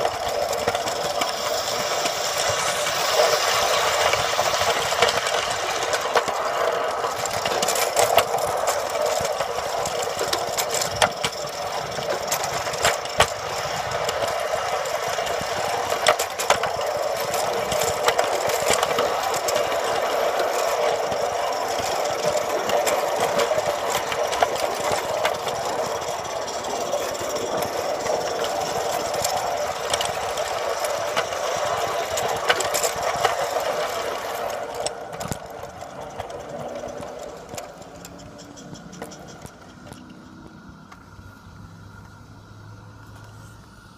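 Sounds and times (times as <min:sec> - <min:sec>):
steam locomotive mechanical chatter: 0:00.0 - 0:43.9
wheels clicking on track: 0:00.0 - 0:43.9.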